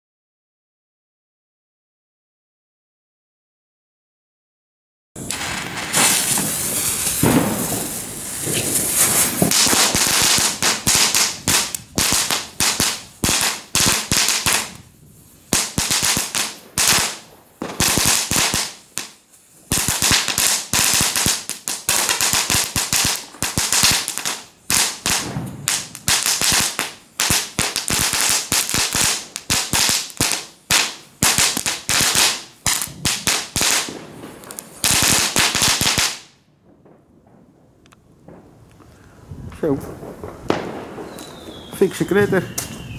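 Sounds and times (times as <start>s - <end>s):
firework crackling and popping: 5.2s - 42.9s.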